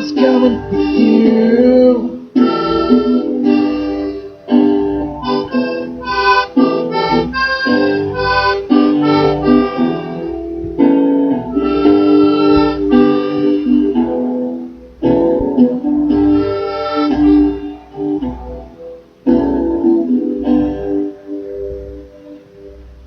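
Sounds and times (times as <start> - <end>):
instrumental music held chords: 0.0 - 23.0.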